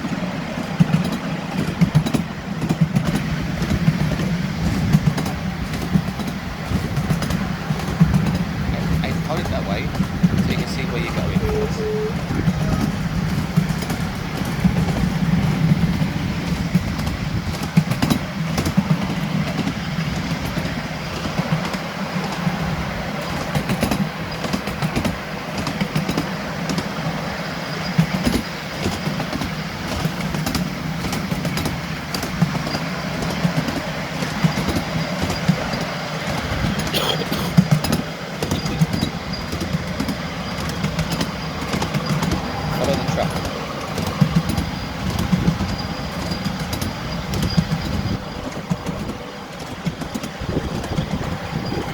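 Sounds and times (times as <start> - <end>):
miniature train humming: 0.0 - 51.9
track clicks and knocks: 0.6 - 22.4, 27.8 - 51.9.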